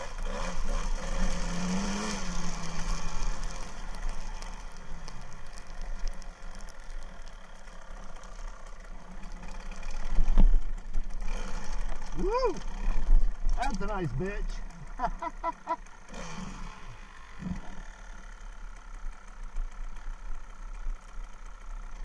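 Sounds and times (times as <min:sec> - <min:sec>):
muffled motorcycle engine: 0:00.0 - 0:22.0.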